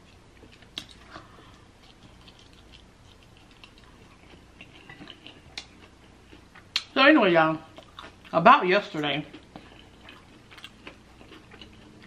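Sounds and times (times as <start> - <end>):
faint chewing: 0.0 - 6.9, 7.7 - 12.0.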